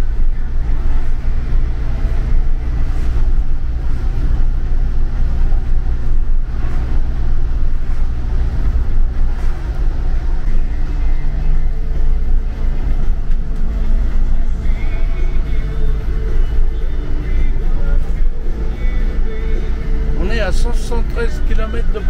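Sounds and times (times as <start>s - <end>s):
low engine drone: 0.0s - 22.0s
road and tyre noise: 0.0s - 22.0s.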